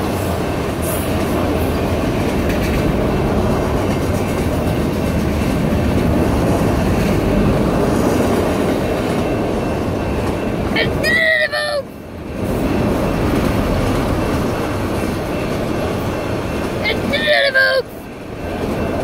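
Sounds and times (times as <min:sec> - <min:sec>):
freight train wheels on rail: 0:00.0 - 0:19.0.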